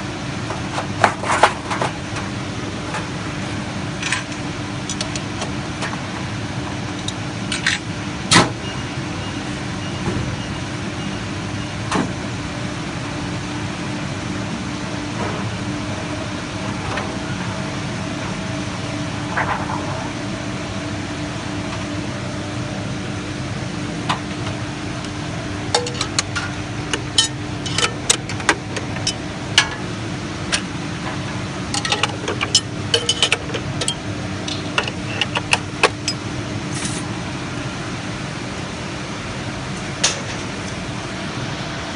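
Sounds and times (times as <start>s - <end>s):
printing press humming: 0.0s - 41.9s.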